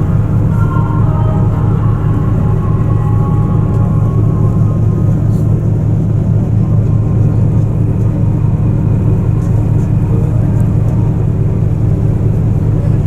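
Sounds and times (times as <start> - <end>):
ship engines humming: 0.0 - 13.0.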